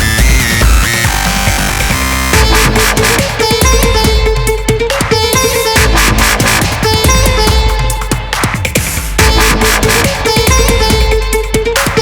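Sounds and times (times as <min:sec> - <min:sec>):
electronic dance music with heavy bass: 0:00.0 - 0:12.0.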